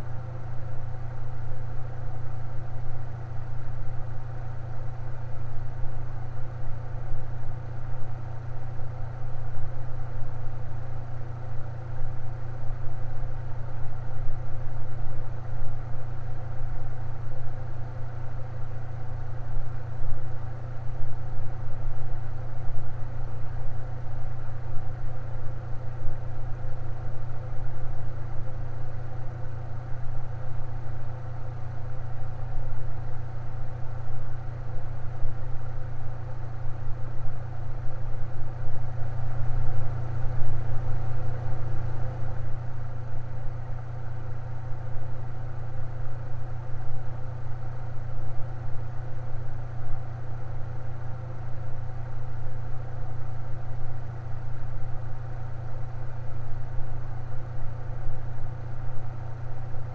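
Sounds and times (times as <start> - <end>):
electric fan running: 0.0 - 59.9.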